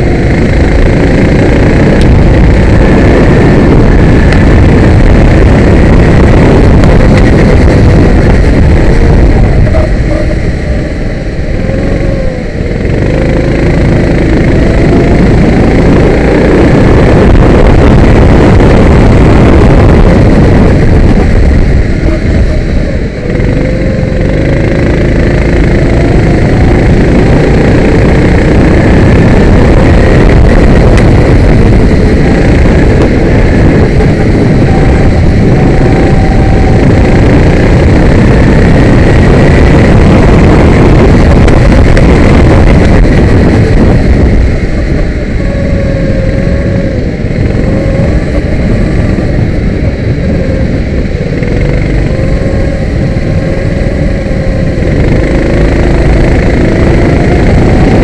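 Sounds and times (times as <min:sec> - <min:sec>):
kart engine at racing speed: 0:00.0 - 0:58.0.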